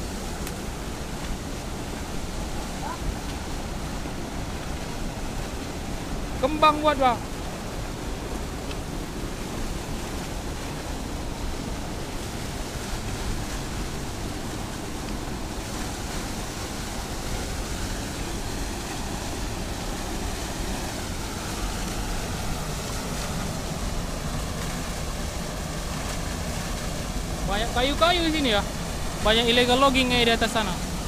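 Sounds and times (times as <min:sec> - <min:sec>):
water churning: 0:00.0 - 0:31.0
waterfall pouring into pool: 0:00.0 - 0:31.0.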